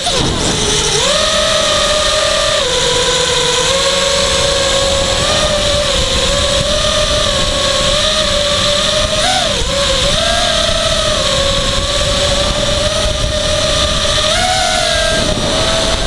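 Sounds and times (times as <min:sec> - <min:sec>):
drone motors whining: 0:00.0 - 0:16.0
wind on microphone: 0:00.0 - 0:16.0.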